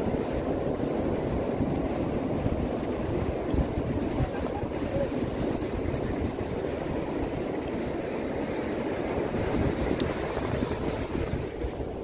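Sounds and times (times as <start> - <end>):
ocean surf: 0.0 - 12.0
wind rumbling on microphone: 0.0 - 12.0.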